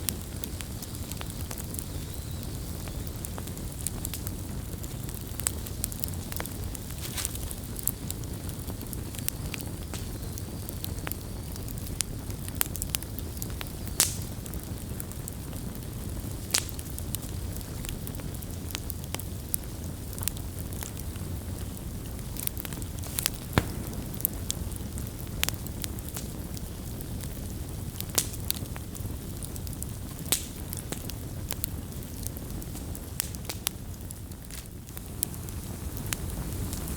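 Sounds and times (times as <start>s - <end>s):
campfire crackling: 0.0s - 36.9s
pops and snaps of burning wood: 0.0s - 36.9s.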